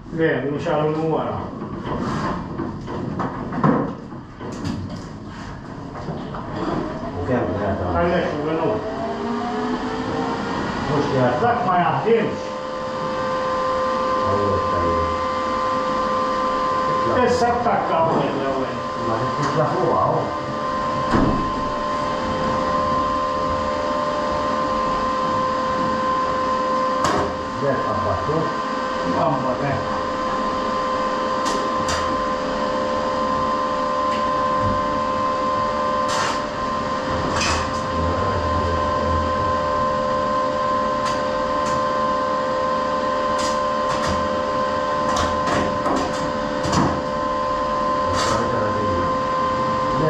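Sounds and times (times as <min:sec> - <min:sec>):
welding equipment electrical hum: 0:00.0 - 0:50.0
small electric fan motor whining: 0:06.6 - 0:50.0.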